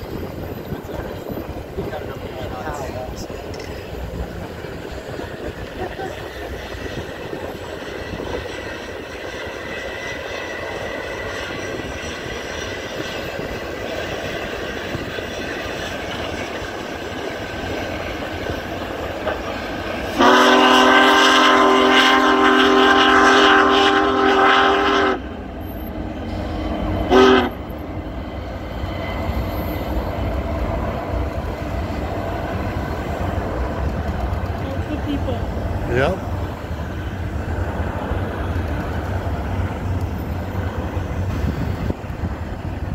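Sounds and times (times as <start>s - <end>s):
steam train rumbling past: 0.0s - 42.9s.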